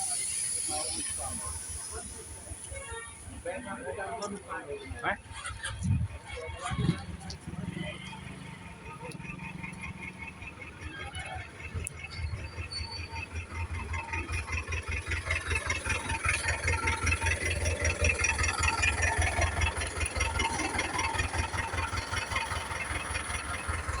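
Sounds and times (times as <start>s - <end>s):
truck engine running with rattle: 0.0s - 24.0s.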